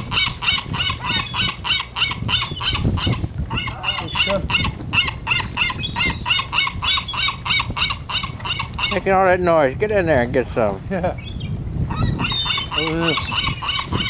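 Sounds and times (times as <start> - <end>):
young gull begging calls: 0.0 - 9.1, 11.2 - 14.0.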